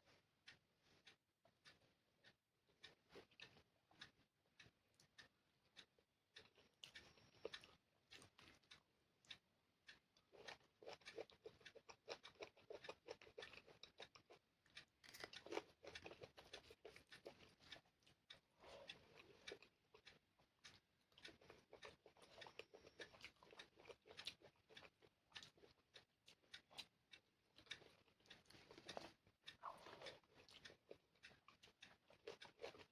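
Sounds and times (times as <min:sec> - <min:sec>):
chewing with wet mouth clicks: 0:01.0 - 0:32.9.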